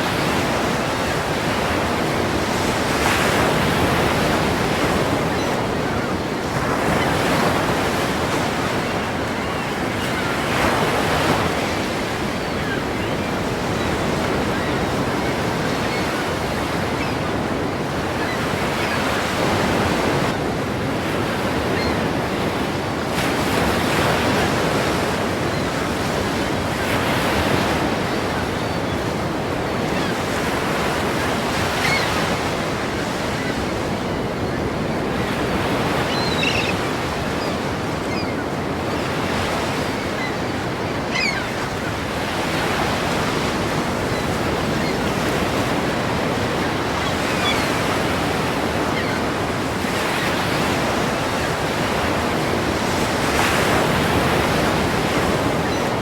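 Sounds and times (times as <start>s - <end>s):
ocean waves crashing: 0.0s - 56.0s.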